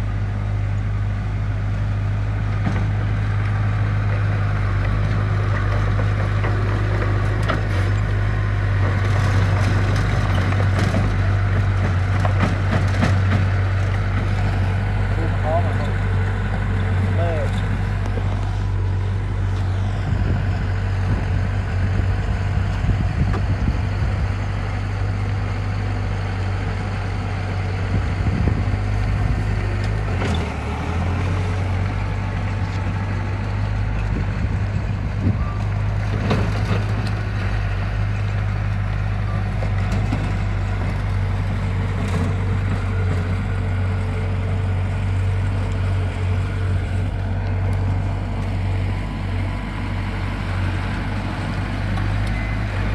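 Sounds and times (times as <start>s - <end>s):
diesel engine deep rumble: 0.0s - 52.9s.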